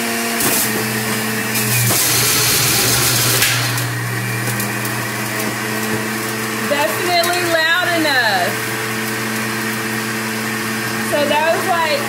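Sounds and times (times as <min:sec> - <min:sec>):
carrot grinding in juicer: 0:00.0 - 0:12.0
juicer motor hum: 0:00.0 - 0:12.0.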